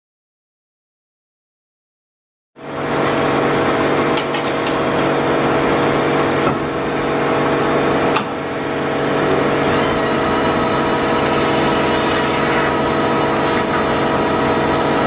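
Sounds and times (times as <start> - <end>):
lathe machine hum: 2.6 - 15.0.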